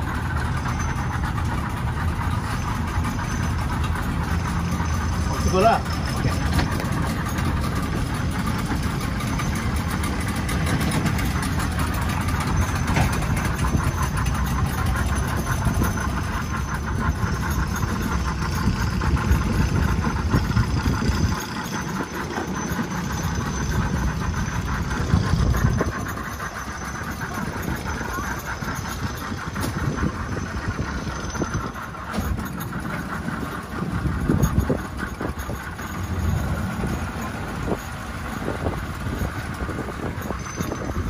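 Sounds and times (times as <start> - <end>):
outboard motors running: 0.0 - 41.0.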